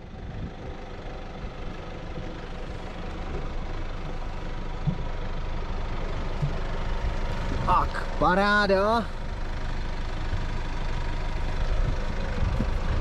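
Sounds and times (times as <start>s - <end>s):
diesel engine running at low speed: 0.0s - 13.0s.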